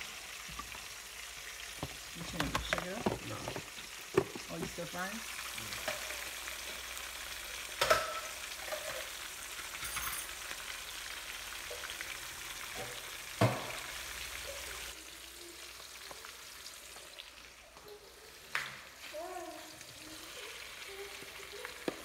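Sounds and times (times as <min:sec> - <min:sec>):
oil sizzling in frying pan: 0:00.0 - 0:22.0.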